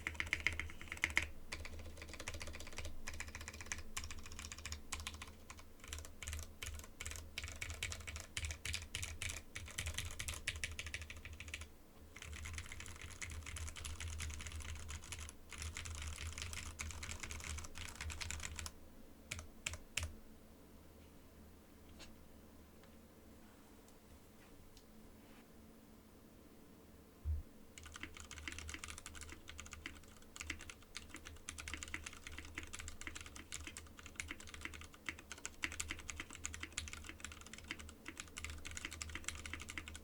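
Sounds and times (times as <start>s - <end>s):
mechanical keyboard typing: 0.0s - 20.1s, 27.8s - 40.0s.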